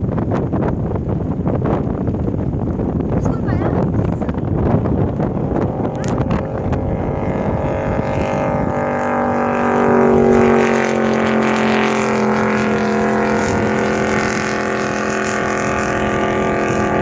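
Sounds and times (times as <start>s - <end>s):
speedboat engine at full speed: 0.0s - 17.0s.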